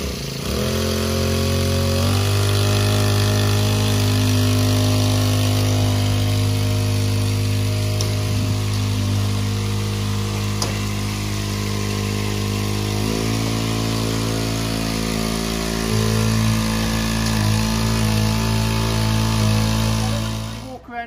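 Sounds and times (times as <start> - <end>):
small petrol engine running: 0.0 - 20.8.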